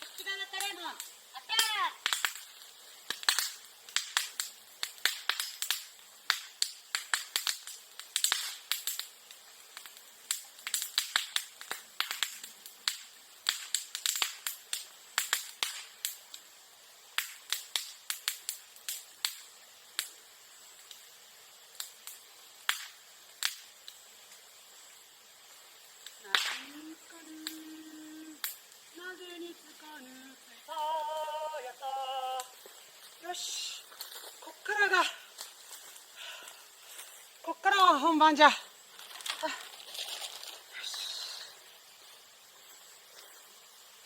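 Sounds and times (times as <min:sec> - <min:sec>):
bamboo grass popping in fire: 0:00.0 - 0:44.0.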